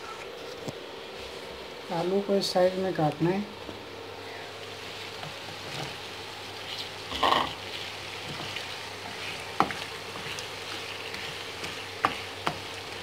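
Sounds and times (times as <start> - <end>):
potatoes sizzling in hot pan: 1.2 - 13.0.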